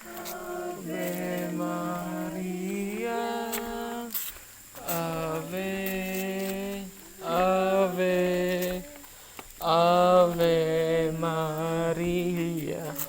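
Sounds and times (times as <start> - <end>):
slow hymn singing: 0.0 - 13.0.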